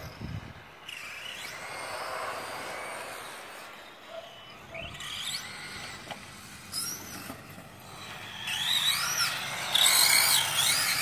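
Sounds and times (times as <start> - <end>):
radio-controlled car motors whining: 0.0 - 11.0.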